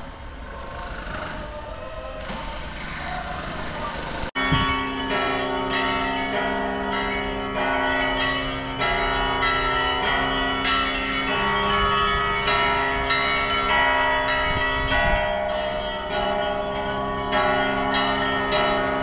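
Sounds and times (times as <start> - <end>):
church bells ringing: 2.2 - 19.0.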